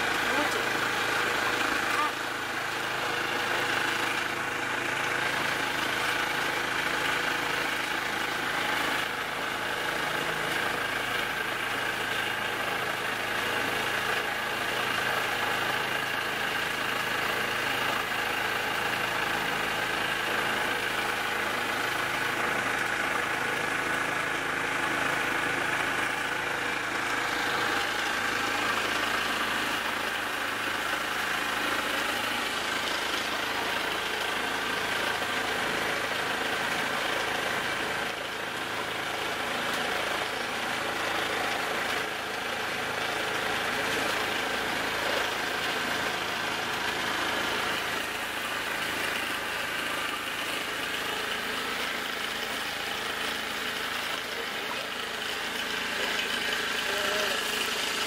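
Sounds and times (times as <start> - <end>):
motorboat engine drone: 0.0 - 58.0.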